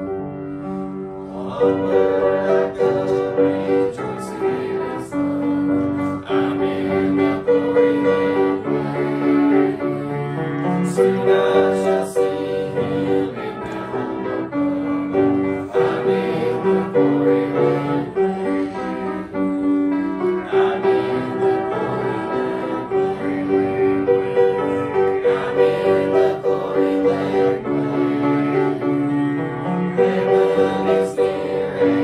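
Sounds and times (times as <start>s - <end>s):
instrumental accompaniment music: 0.0s - 32.0s.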